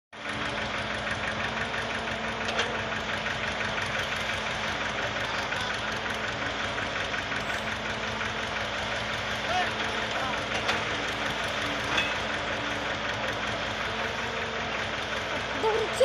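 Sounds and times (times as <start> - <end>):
diesel engine knocking: 0.2 - 16.0.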